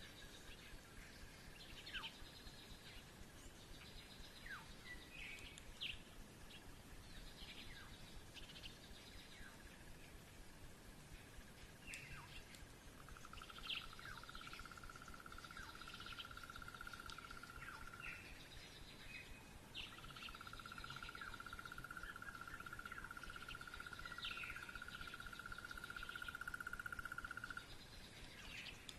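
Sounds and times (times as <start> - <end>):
birds chirping: 0.0 - 10.2, 11.2 - 28.9.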